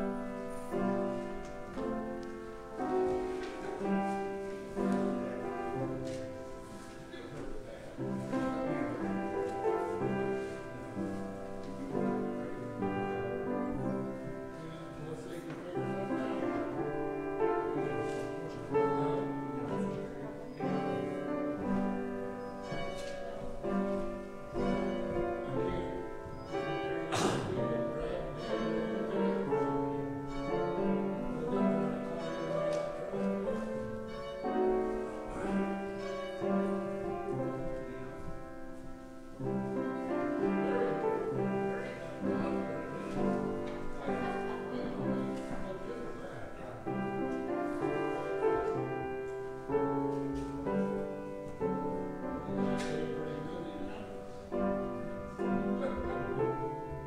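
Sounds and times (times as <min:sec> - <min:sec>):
piano playing held chords: 0:00.0 - 0:57.0.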